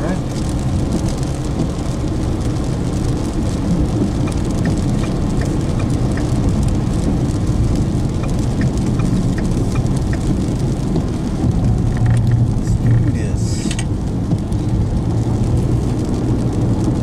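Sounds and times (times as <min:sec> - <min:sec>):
rain ticking on vehicle: 0:00.0 - 0:17.0
road and engine rumble: 0:00.0 - 0:17.0.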